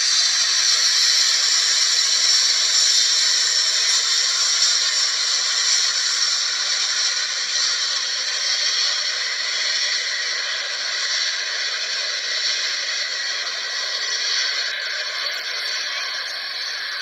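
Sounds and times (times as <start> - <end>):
distant jet engines hissing: 0.0 - 17.0.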